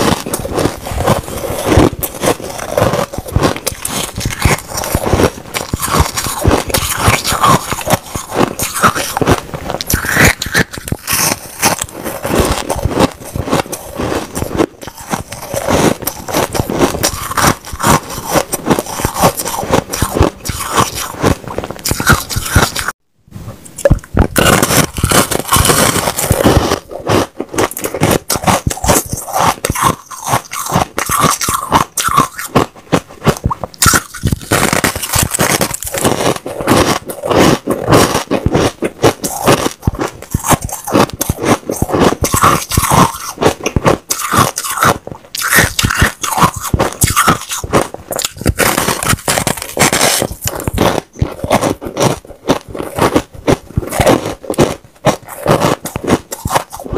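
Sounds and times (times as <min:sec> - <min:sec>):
crunching and chewing ice: 0:00.0 - 0:23.0, 0:23.6 - 0:56.9.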